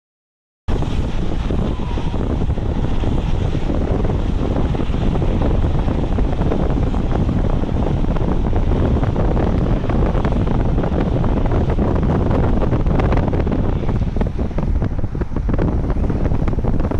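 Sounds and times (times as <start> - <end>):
freight train rumbling: 0.7 - 16.9
wind buffeting microphone: 0.7 - 16.9.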